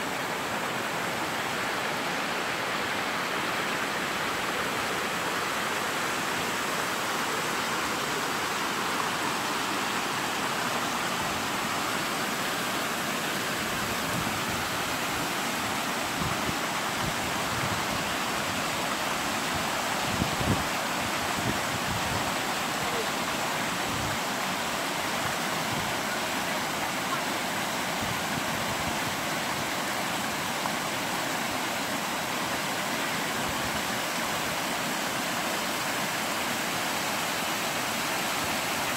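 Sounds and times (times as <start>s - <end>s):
water rushing over weir: 0.0s - 38.9s.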